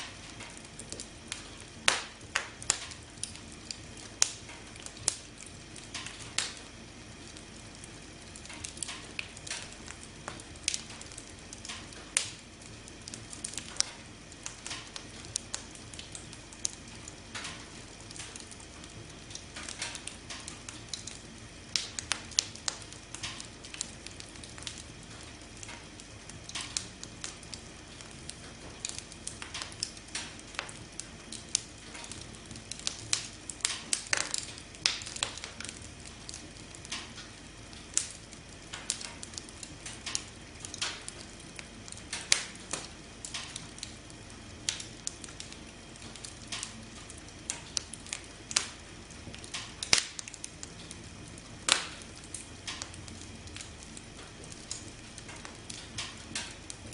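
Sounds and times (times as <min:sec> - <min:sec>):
campfire crackling and popping: 0:00.0 - 0:56.9
campfire hissing: 0:00.0 - 0:56.9.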